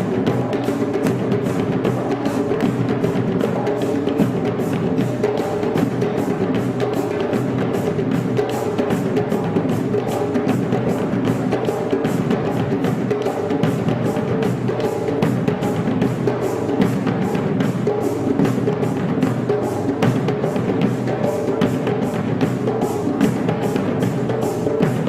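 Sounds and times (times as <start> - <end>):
percussion drums beating: 0.0 - 25.0.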